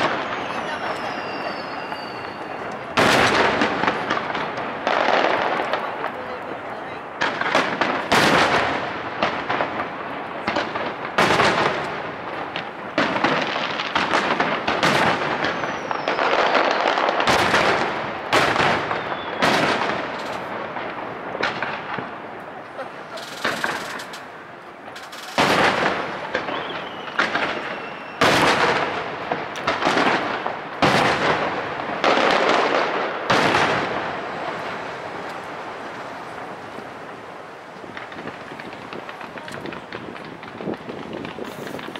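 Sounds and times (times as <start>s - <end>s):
fireworks shells bursting: 0.0s - 6.3s, 7.2s - 37.2s, 37.8s - 41.9s
echoing rumble and crackle: 0.0s - 41.9s.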